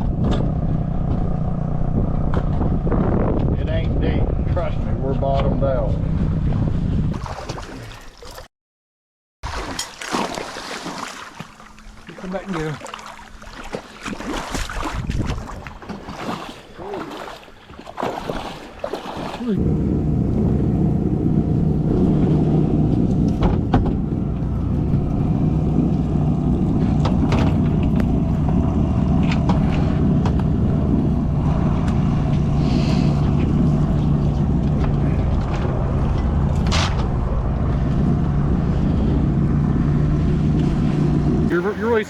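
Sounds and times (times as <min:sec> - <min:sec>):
boat motor running: 0:00.0 - 0:07.2, 0:09.5 - 0:42.0.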